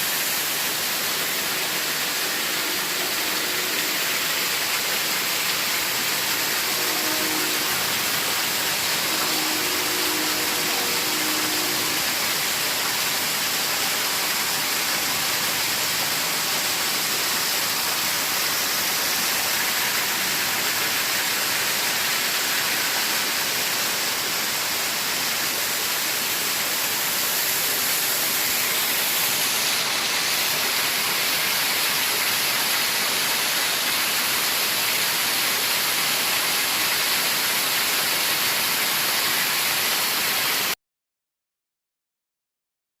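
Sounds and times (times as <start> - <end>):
steady static hiss: 0.0 - 40.7.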